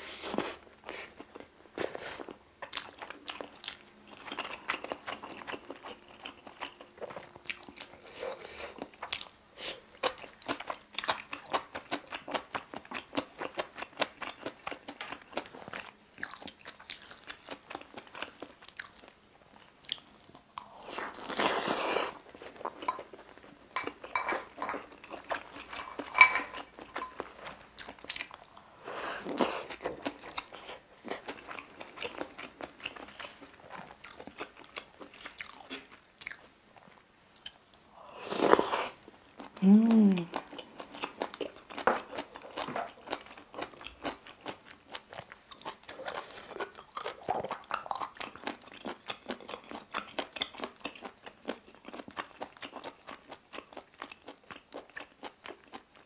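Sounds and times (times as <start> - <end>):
person chewing food: 0.1 - 56.0.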